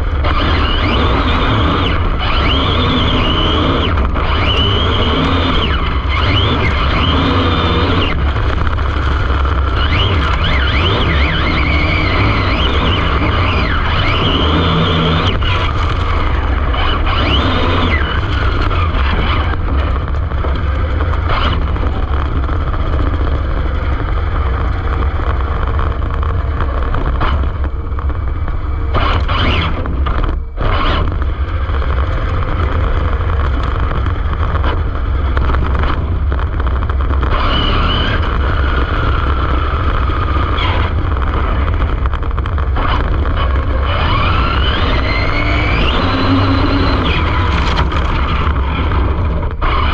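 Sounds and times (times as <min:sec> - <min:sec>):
electric motor whining: 0:00.0 - 0:49.9
rc car rumbling over ground: 0:00.0 - 0:49.9.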